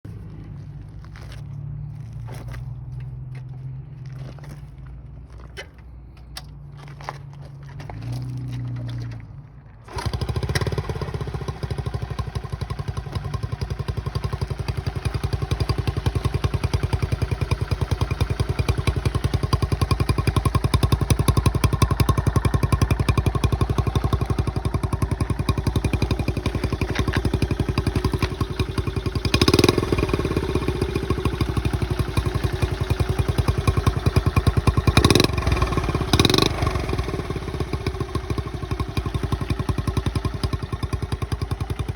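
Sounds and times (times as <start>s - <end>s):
motorcycle engine starting and running: 6.4s - 41.9s.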